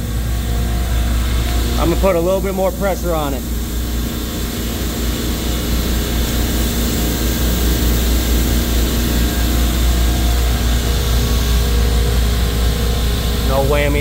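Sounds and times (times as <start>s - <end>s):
refrigeration machinery drone: 0.0s - 14.0s.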